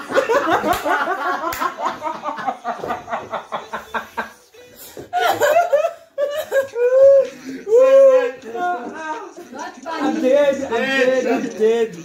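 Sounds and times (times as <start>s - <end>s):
people laughing together: 0.0s - 10.2s.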